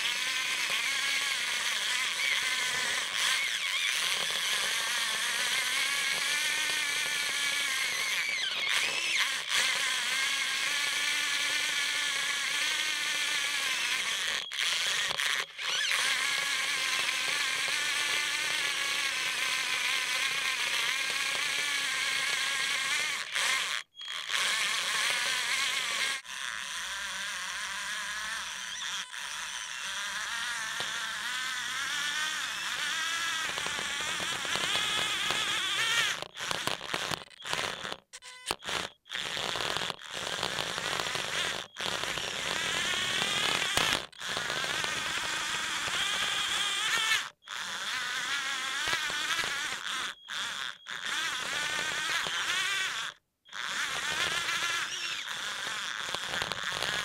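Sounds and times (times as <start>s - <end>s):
electric motors whining: 0.0s - 57.0s.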